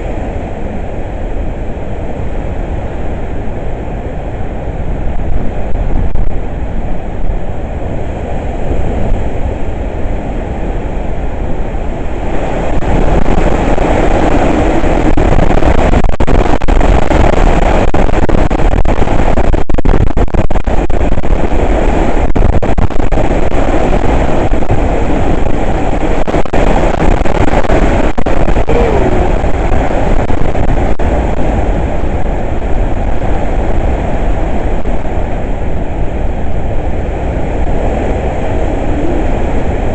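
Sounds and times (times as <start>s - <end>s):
hurricane wind blowing hard: 0.0s - 39.9s.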